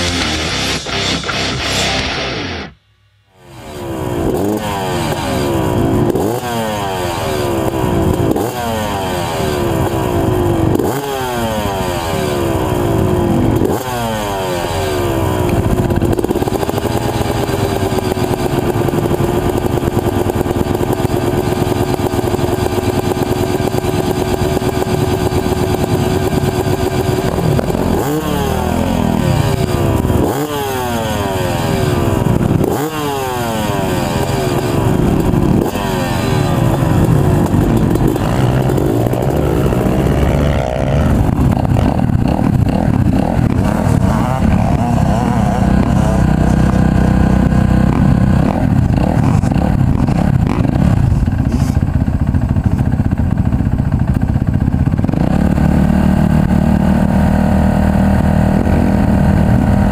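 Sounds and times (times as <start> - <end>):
dirt bike engine running steadily: 0.0 - 2.3, 3.3 - 59.9
dirt bike engine revving: 0.0 - 59.9.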